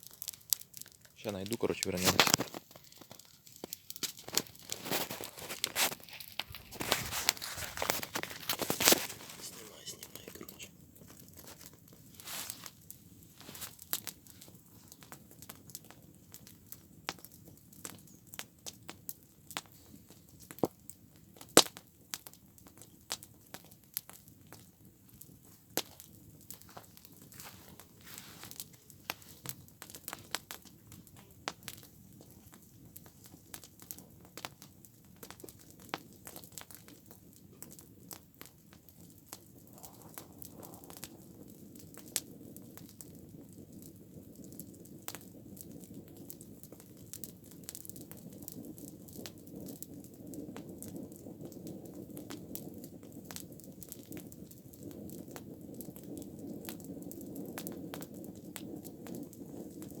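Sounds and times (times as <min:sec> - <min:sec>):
flames rushing: 0:00.0 - 0:16.0, 0:25.2 - 1:00.0
campfire crackling and popping: 0:00.0 - 1:00.0.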